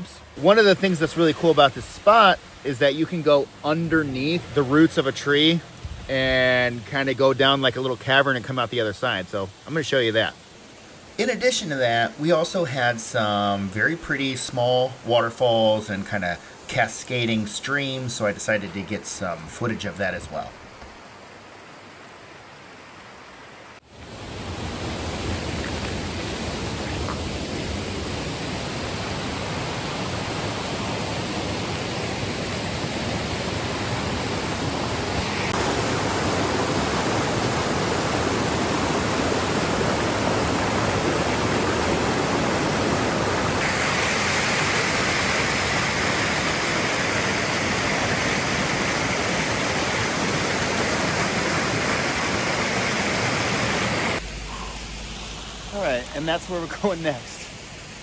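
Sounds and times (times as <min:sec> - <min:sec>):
water rushing over cascades: 0:09.5 - 0:58.0.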